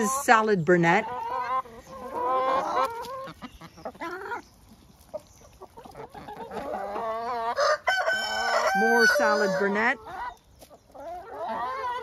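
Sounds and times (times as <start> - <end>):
hens clucking and calling: 0.0 - 12.0.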